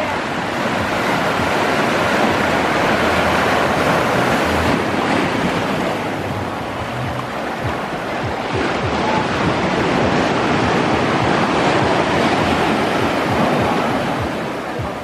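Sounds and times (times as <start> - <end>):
sea waves crashing over rocks: 0.0 - 15.0.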